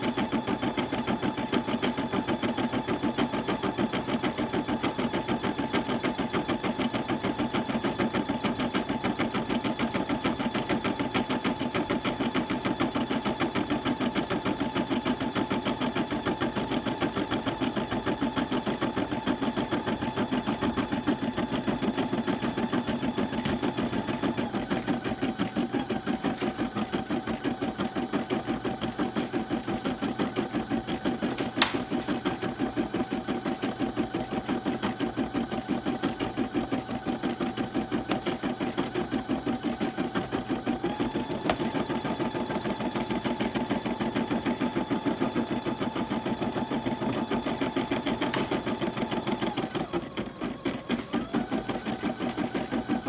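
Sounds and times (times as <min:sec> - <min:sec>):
embroidery machine stitching: 0:00.0 - 0:53.0.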